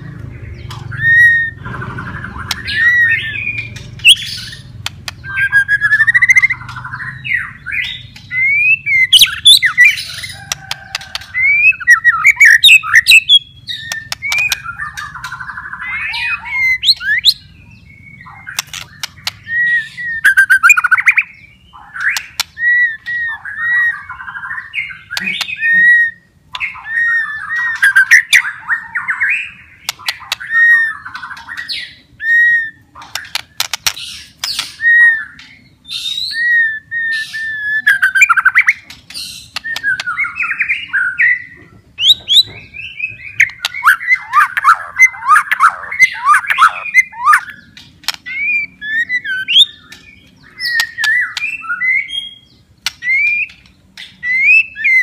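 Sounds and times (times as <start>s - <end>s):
bird harsh chatter: 0.0s - 55.0s
songbird whistling: 0.6s - 55.0s.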